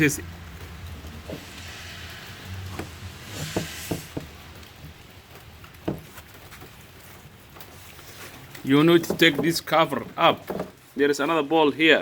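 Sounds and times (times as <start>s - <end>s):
faint hiss: 0.0s - 10.0s.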